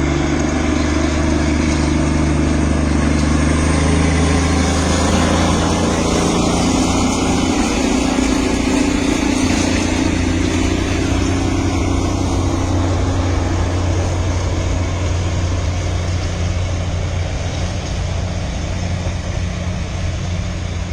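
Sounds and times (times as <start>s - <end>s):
higher hum: 0.0s - 20.9s
vehicle engine droning: 0.0s - 20.9s.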